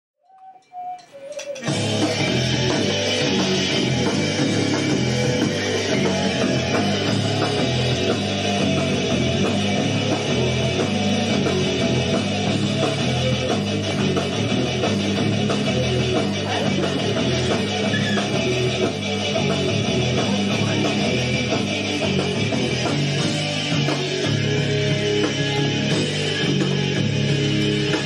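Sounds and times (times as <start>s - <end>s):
fast rock band playing: 1.5s - 28.0s.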